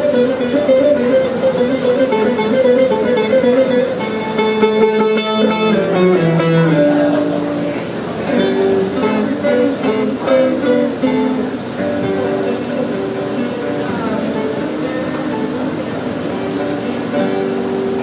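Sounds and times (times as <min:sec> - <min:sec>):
long-necked lute plucked: 0:00.0 - 0:18.0.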